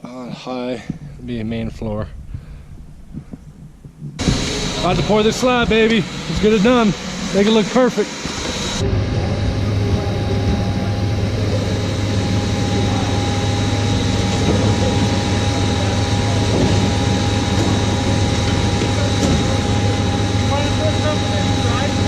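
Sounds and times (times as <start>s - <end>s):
steady whine: 0.0s - 22.0s
diesel truck engine running: 2.1s - 22.0s.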